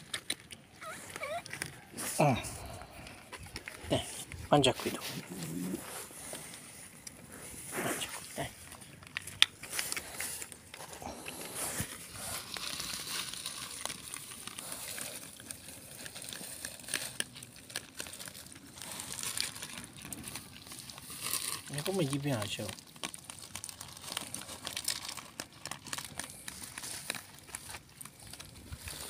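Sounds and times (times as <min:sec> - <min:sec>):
cats chewing and lapping: 0:00.0 - 0:29.0.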